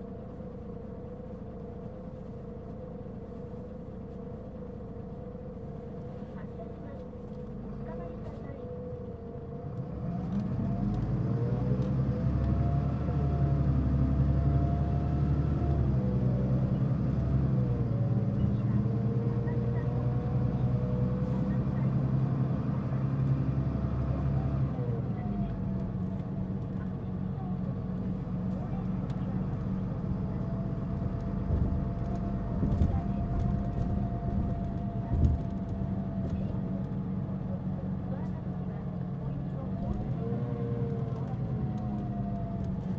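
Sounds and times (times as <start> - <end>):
bus diesel engine rumbling: 0.0 - 42.9
engine whine: 0.0 - 42.9.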